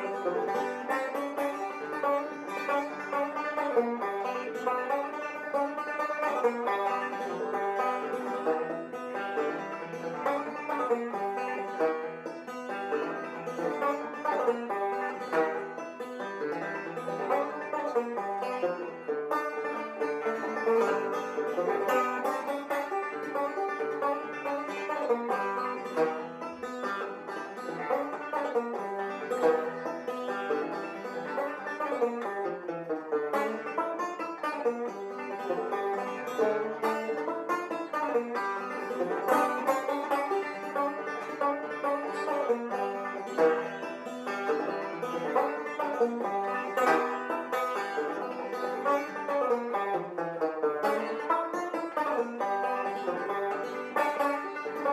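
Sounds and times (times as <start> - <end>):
fast banjo picking: 0.0 - 54.9.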